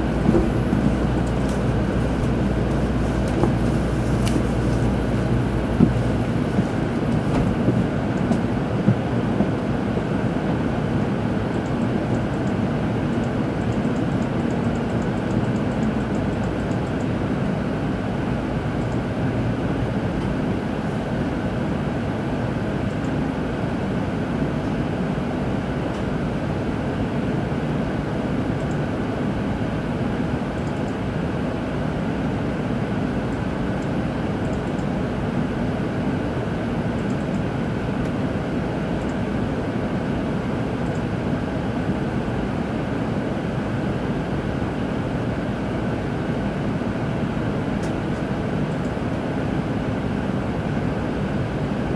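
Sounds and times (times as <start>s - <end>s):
train running noise inside car: 0.0s - 51.9s.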